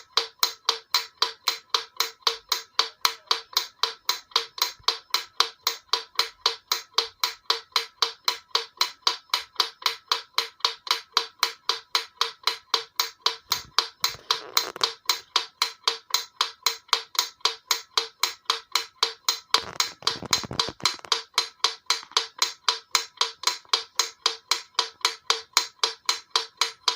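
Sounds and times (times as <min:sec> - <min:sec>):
metronome ticking fast: 0:00.0 - 0:26.9.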